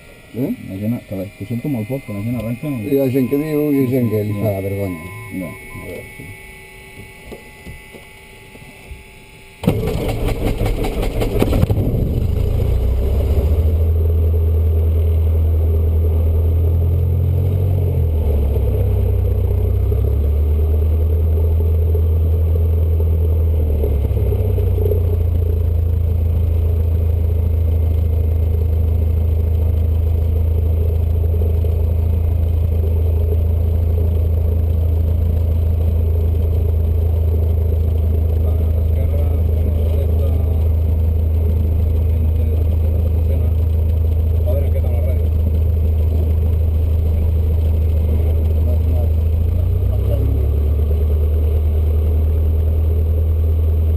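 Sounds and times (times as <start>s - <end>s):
aircraft engine starting and idling: 0.0s - 14.6s, 24.5s - 53.9s.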